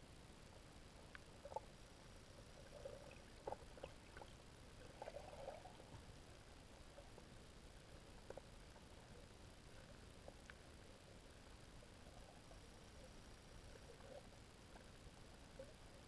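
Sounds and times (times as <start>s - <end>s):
faint underwater clicks and pops: 0.4s - 16.0s.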